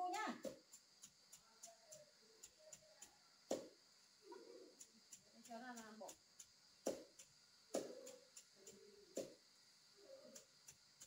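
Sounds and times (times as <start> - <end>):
faint ticking: 0.0 - 11.0.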